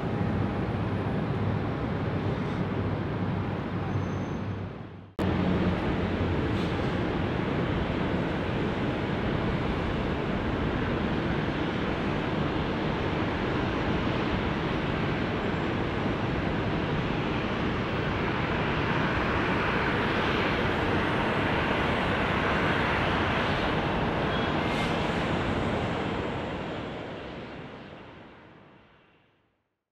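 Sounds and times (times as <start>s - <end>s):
wind noise on microphone: 0.0s - 28.3s
distant jet engine: 0.0s - 28.7s.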